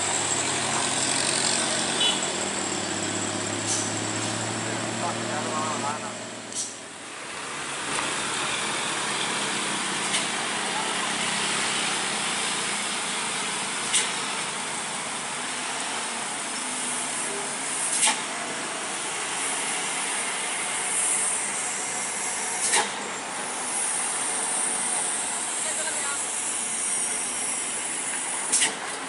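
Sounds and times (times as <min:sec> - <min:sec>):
truck diesel engine working: 0:00.0 - 0:29.0.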